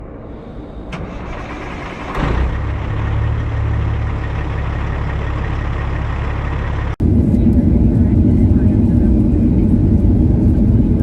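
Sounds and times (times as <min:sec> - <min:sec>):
diesel truck engine humming: 0:00.6 - 0:09.6.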